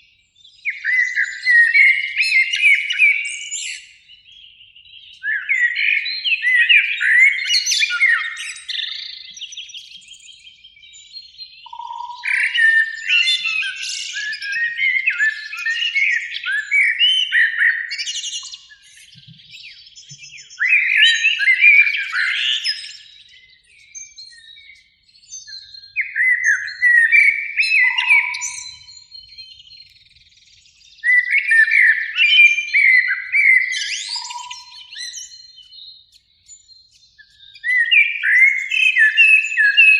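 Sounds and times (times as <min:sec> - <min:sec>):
blackbird singing: 0:00.0 - 0:39.9.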